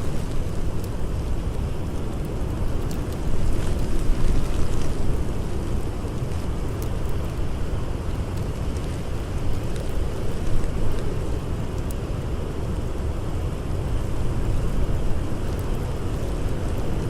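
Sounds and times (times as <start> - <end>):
blizzard wind rushing: 0.0 - 17.0
faint campfire crackles: 0.0 - 17.0.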